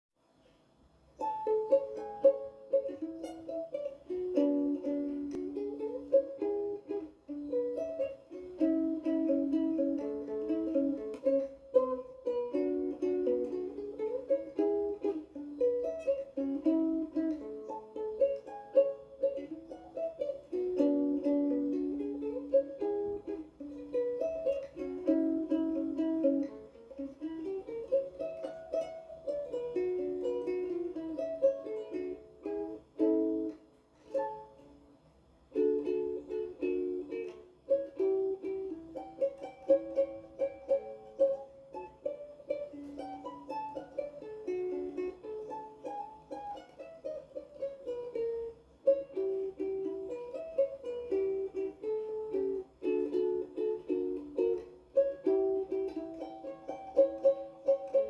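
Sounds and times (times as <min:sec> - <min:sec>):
ukulele fingerpicking melody: 0:00.4 - 0:58.0.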